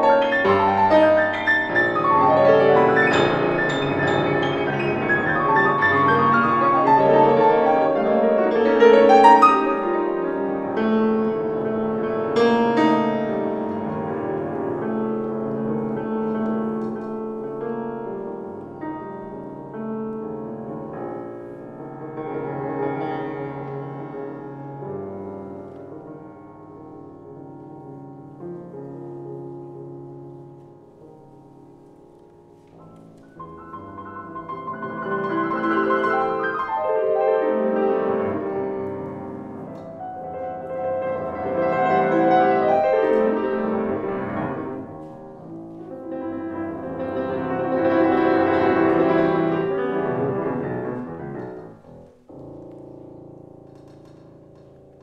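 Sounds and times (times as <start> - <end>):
classical piano: 0.0 - 55.0.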